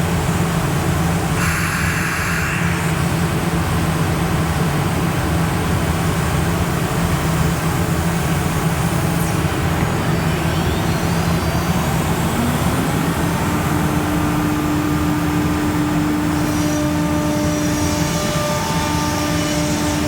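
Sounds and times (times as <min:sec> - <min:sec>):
cnc router machine drone: 0:00.0 - 0:20.0.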